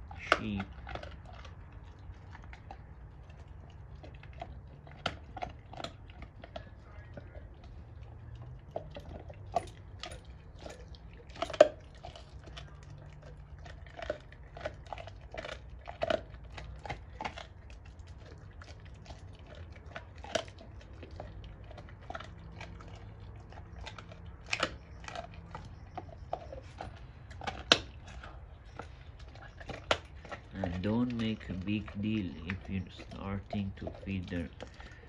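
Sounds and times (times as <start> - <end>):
bone cracking: 0.0 - 35.0
dog chewing a bone: 0.0 - 35.0.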